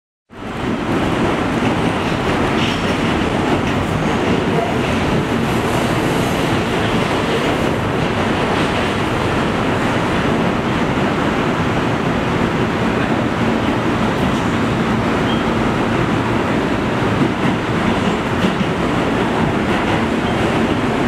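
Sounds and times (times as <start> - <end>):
subway car wheel and track noise: 0.3 - 21.0.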